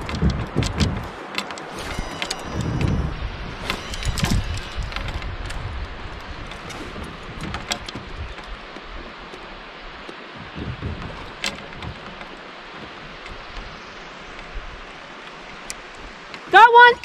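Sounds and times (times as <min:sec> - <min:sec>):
river water flowing: 0:00.0 - 0:17.0
wind: 0:00.0 - 0:17.0.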